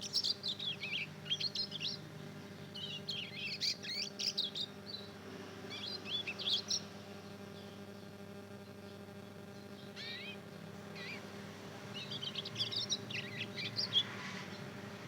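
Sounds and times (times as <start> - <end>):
young bird twittering song: 0.0 - 8.1, 8.8 - 11.2, 11.9 - 14.7
low electrical hum: 0.0 - 15.0.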